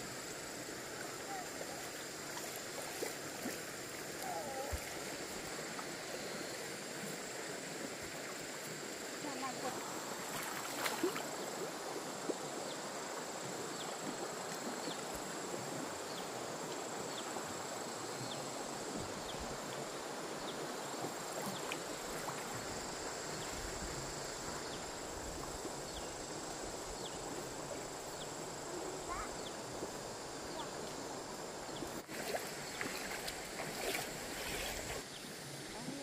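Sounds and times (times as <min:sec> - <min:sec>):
constant hiss: 0:00.0 - 0:36.0
high insect drone: 0:00.0 - 0:36.0.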